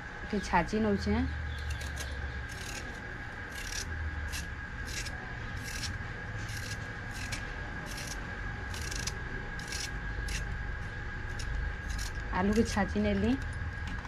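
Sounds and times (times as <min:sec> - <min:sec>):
knife scraping potato: 0:01.5 - 0:13.3.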